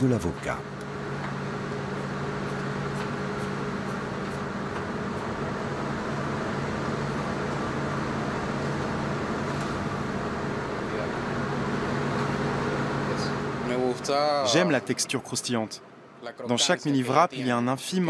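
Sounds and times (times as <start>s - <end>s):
kitchen ventilation humming: 0.0s - 18.0s.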